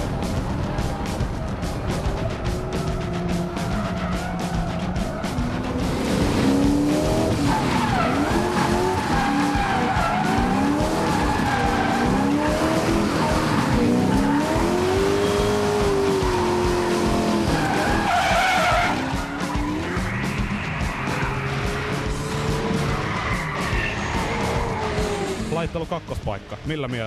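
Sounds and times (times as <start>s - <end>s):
car engine revving: 0.0s - 26.6s
tyres skidding: 0.0s - 26.7s.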